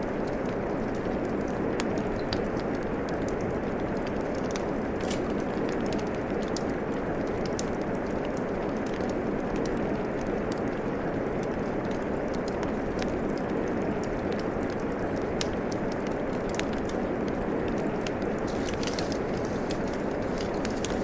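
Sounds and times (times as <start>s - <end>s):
rain falling: 0.1s - 21.0s
wood fire crackling: 0.1s - 21.0s.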